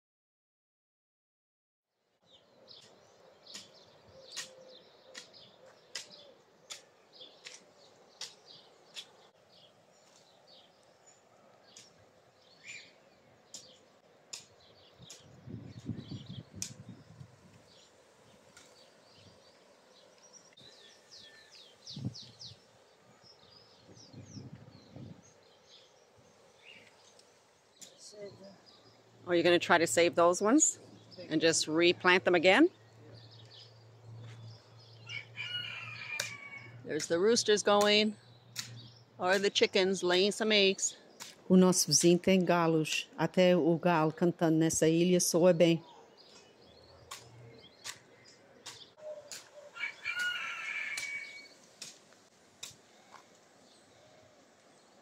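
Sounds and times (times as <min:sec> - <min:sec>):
small birds chirping: 0:02.2 - 0:55.0.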